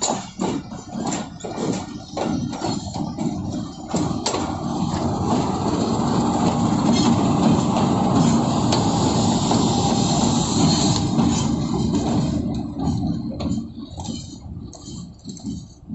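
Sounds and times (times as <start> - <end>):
rumble of wheels on track: 0.0 - 15.9
train wheels clanking over rail joints: 0.0 - 15.9.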